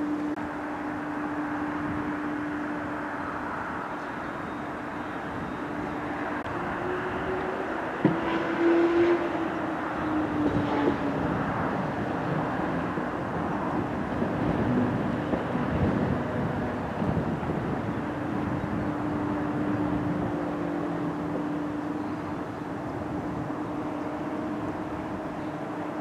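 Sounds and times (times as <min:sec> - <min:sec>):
distant vehicle rumble: 0:00.0 - 0:26.0.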